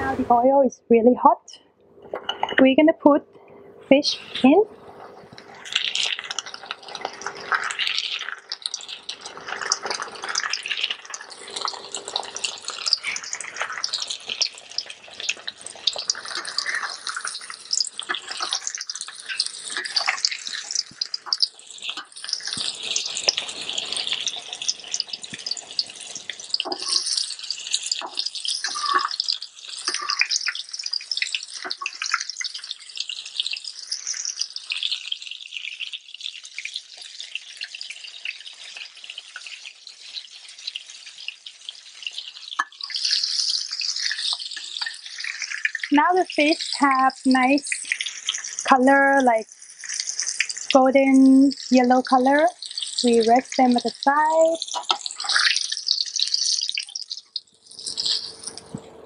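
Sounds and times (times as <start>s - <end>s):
fish deep-frying in oil: 3.9s - 59.0s.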